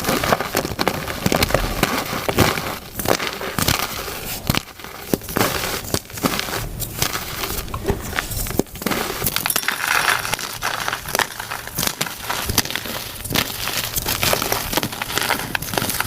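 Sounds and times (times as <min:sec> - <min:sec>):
chalk being crushed: 0:00.0 - 0:16.0.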